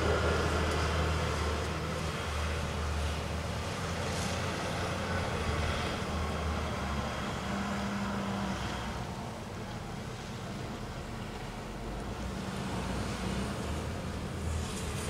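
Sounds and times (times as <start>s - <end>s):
distant vehicles and machinery rumble: 0.0s - 15.0s.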